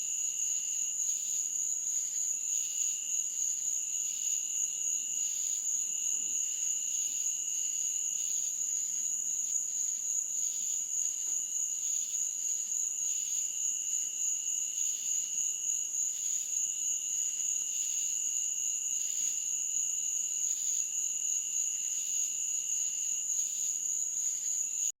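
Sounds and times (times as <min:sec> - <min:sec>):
lower insect trill: 0:00.1 - 0:25.0.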